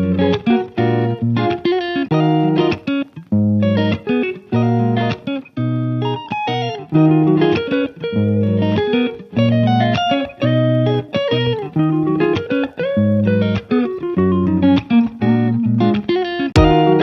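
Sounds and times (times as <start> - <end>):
rhythmic guitar music with bass: 0.0 - 17.0.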